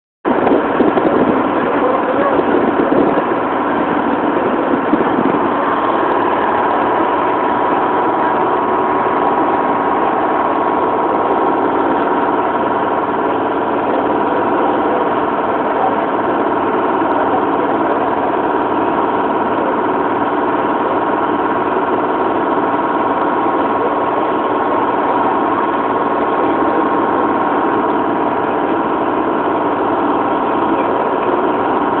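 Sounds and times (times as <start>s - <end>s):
boat engine drone: 0.3s - 32.0s.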